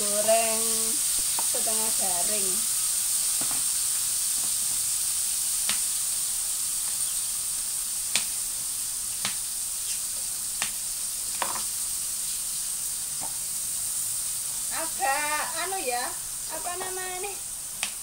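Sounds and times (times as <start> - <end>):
mushrooms sizzling in hot oil: 0.0 - 18.0.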